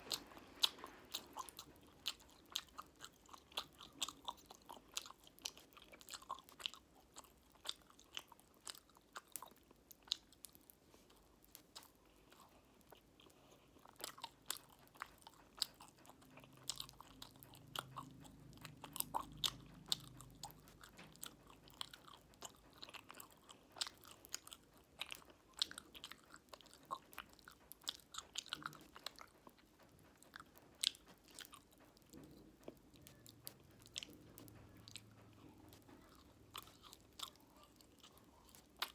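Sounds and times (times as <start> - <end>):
chewing: 0.0 - 38.9
popping candy crackling: 0.0 - 38.9.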